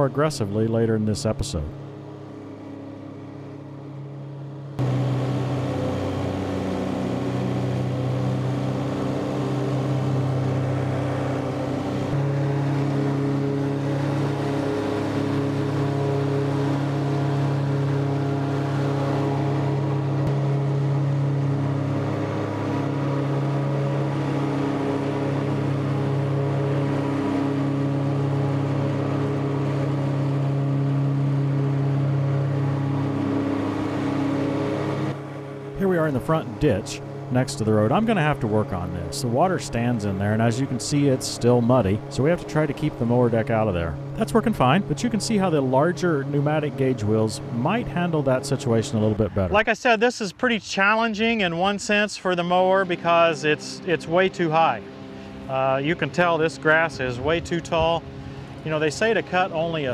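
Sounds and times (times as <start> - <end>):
rotary mower cutting grass: 0.0 - 49.7, 50.4 - 59.9
tractor diesel engine running: 0.0 - 49.7, 50.8 - 59.9.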